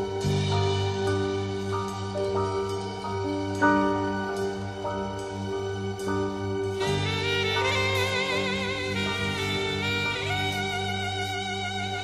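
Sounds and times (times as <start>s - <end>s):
jazz-blues chords: 0.0s - 12.0s.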